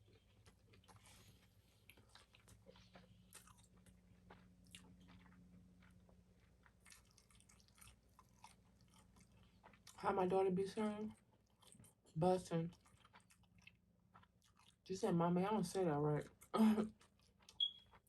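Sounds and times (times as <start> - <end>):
person chewing food: 0.0 - 10.0, 11.1 - 14.9, 16.2 - 18.0.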